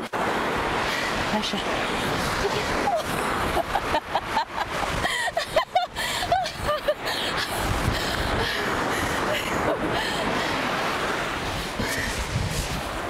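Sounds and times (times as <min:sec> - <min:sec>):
ocean surf washing up: 0:00.0 - 0:13.0.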